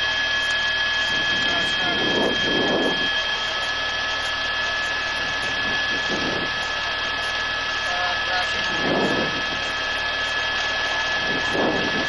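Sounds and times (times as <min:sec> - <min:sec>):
aircraft engine whine: 0:00.0 - 0:12.0
faint voices: 0:01.0 - 0:12.0.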